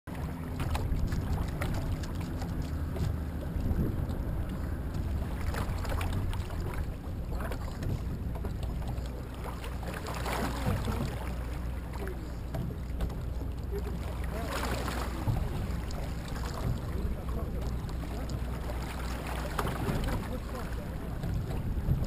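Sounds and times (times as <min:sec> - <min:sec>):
water splashing against boat: 0:00.1 - 0:22.0
wind rumble on microphone: 0:00.1 - 0:22.0.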